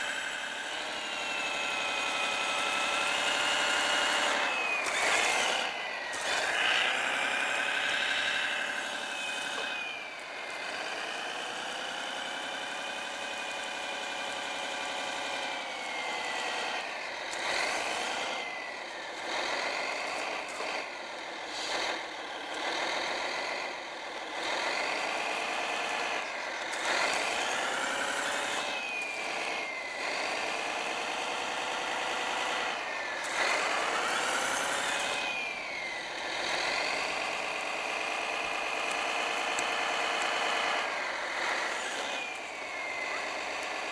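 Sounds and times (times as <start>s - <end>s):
simulated diesel engine revving: 0.0s - 43.9s.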